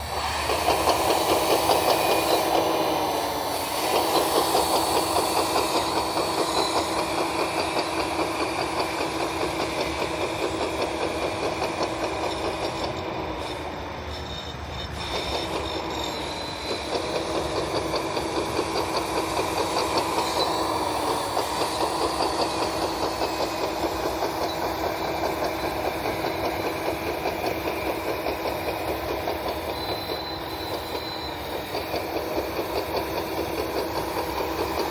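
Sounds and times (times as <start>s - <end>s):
model bulldozer mechanical drone: 0.0s - 34.9s.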